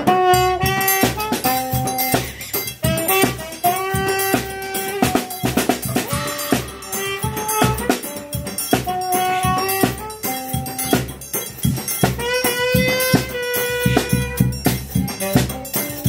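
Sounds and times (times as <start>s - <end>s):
saxophone melody: 0.0s - 10.9s, 11.9s - 16.0s
bass drum beat: 0.0s - 16.0s
snare drum: 0.0s - 16.0s.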